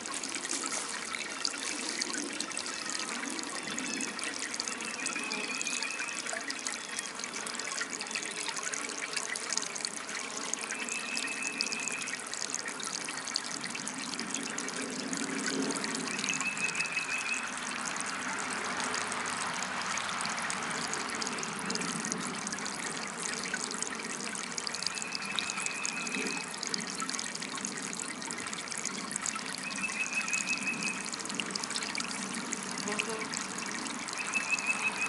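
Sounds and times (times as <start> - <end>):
water fountain trickling: 0.0 - 35.0.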